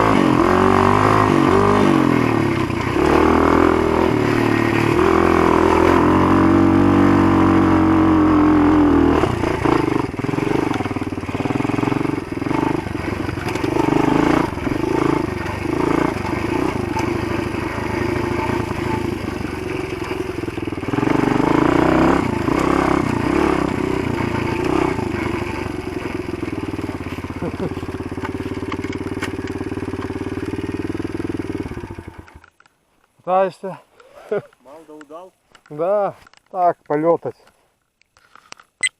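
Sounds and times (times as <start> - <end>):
motorbike engine revving: 0.0 - 32.5.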